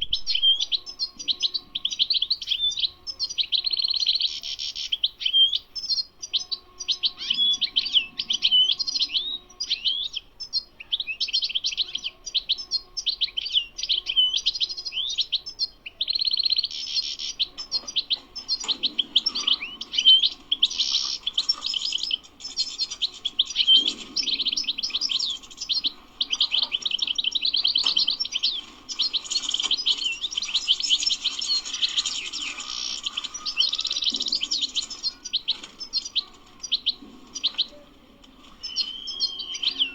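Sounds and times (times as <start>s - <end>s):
bird twittering song: 0.0s - 37.8s, 38.4s - 39.9s.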